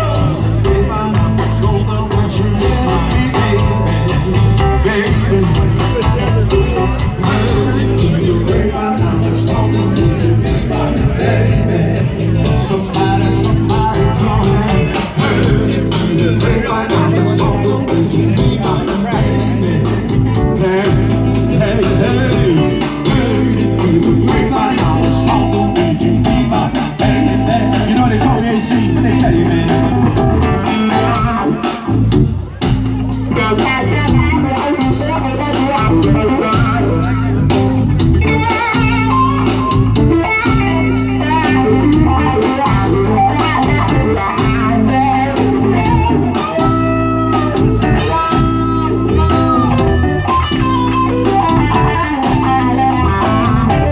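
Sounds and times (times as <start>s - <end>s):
person singing: 0.0s - 32.6s, 33.2s - 53.9s
bass line: 0.0s - 53.9s
blues electric guitar: 0.0s - 53.9s
rock band music: 0.0s - 53.9s
steady drum beat: 0.0s - 53.9s.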